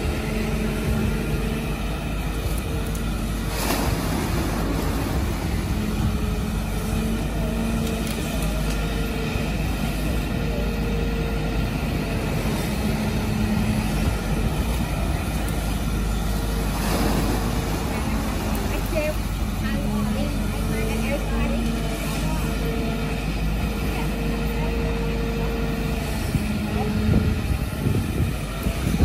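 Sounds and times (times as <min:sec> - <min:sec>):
excavator diesel engine running: 0:00.0 - 0:29.0
hydraulic whine: 0:00.0 - 0:29.0.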